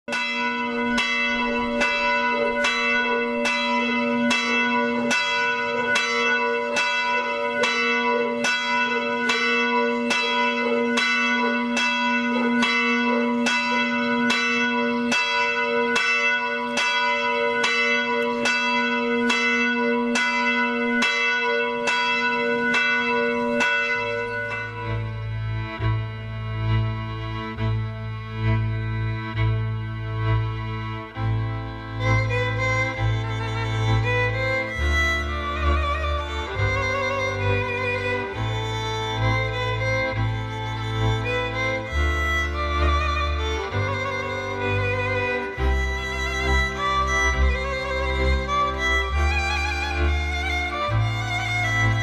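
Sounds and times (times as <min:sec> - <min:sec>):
church bell tolling: 0:00.1 - 0:52.0.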